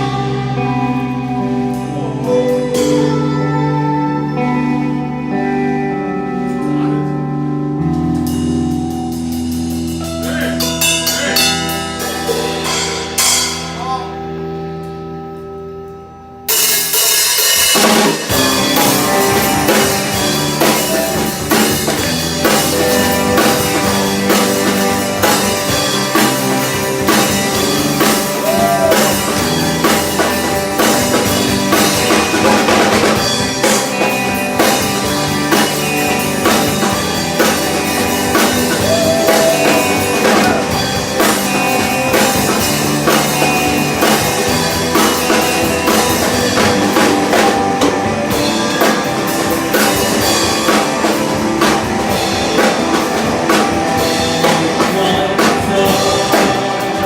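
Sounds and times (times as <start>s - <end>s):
rock band with drum kit: 0.0s - 57.0s
sustained guitar and bass chords: 0.0s - 57.0s.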